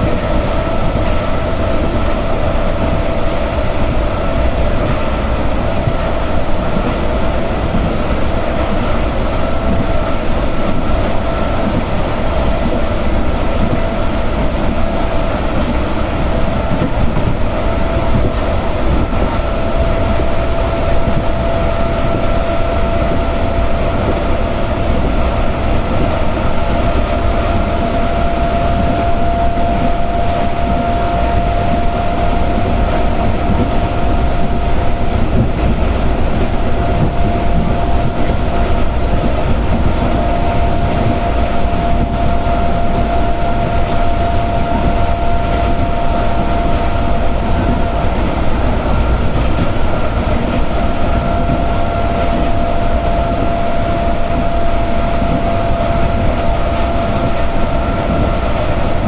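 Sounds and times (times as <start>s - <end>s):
steady high whine: 0.0s - 59.0s
train wheels rumbling on rails: 0.0s - 59.0s.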